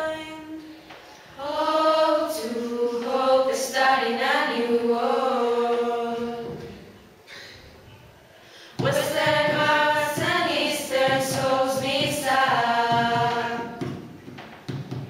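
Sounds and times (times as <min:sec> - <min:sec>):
young voices singing together: 0:00.0 - 0:07.8, 0:08.4 - 0:15.0.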